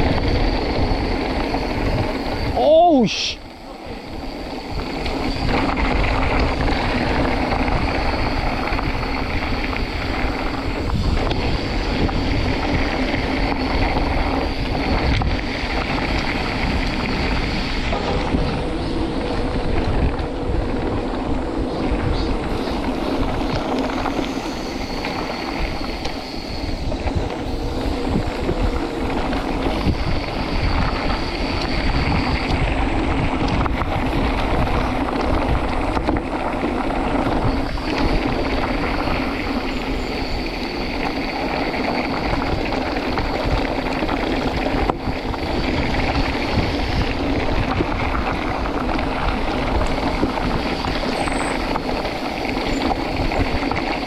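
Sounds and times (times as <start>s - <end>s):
bike rumbling and rattling: 0.0s - 54.0s
faint high whine: 0.0s - 54.0s
wind buffeting microphone: 0.0s - 54.0s.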